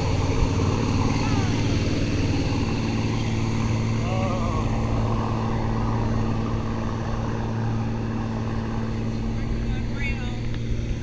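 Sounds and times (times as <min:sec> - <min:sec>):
boat engine droning: 0:00.0 - 0:11.0
wind buffeting microphone: 0:00.0 - 0:11.0.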